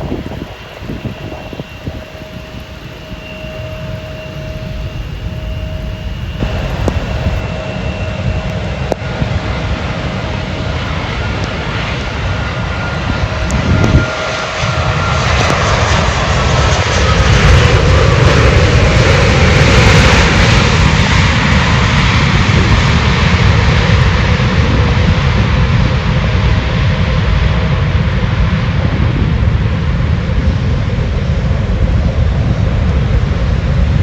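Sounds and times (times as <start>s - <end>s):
jet airliner passing: 0.0s - 34.0s
wind rumble on microphone: 0.0s - 34.0s.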